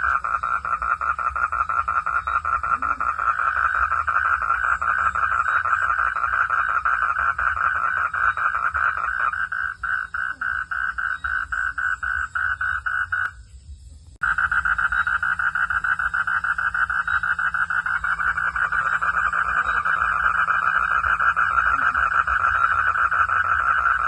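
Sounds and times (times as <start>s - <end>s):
frogs calling in chorus: 0.0s - 13.4s, 14.2s - 24.0s.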